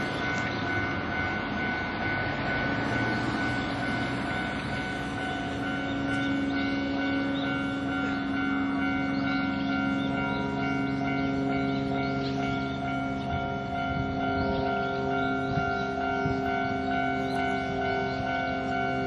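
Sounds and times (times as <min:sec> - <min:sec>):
level crossing warning bell: 0:00.0 - 0:19.0
rumble of passing traffic: 0:00.0 - 0:19.0.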